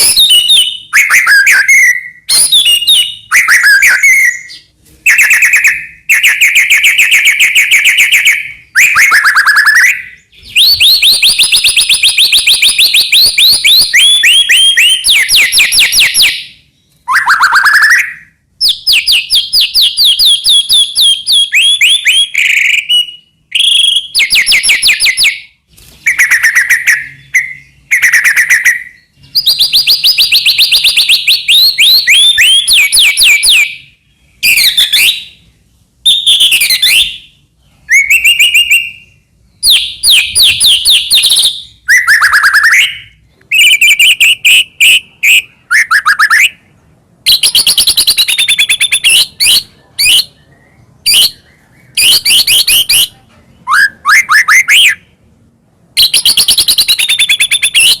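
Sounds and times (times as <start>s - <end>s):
bird singing whistles: 0.0s - 35.4s, 36.0s - 46.7s, 47.3s - 55.1s, 56.0s - 58.0s.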